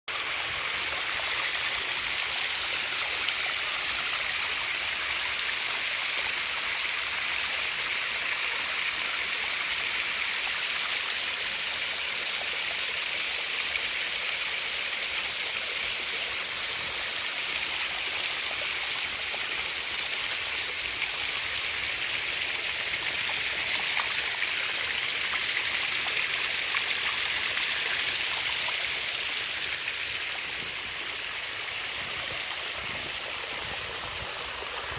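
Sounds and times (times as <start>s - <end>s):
small waterfalls splashing: 0.1s - 34.9s.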